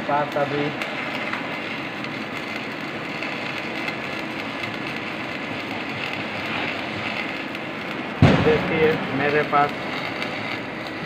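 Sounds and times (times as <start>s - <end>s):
machinery running with hiss: 0.0s - 11.0s.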